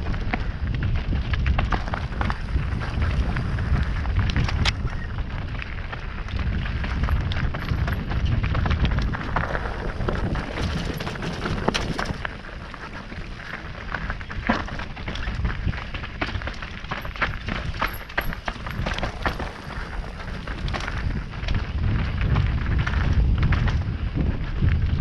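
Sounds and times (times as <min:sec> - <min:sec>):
bike rattling on rough trail: 0:00.0 - 0:25.0
wind buffeting microphone: 0:00.0 - 0:25.0.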